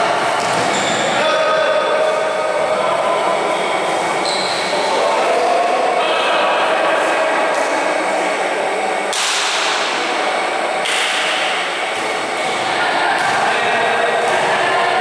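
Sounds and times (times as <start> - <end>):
echoing hall noise: 0.0 - 15.0.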